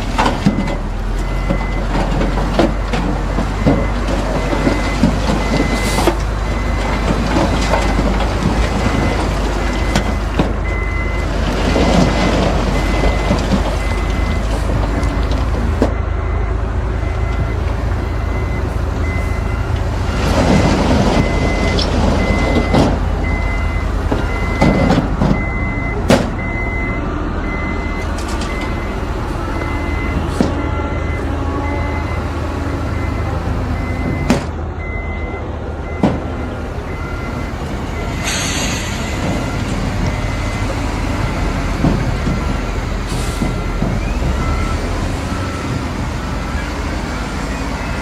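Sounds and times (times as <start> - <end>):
heavy diesel machinery running: 0.0 - 48.0
reversing alarm beeping: 0.4 - 8.2, 8.8 - 19.8, 20.4 - 48.0.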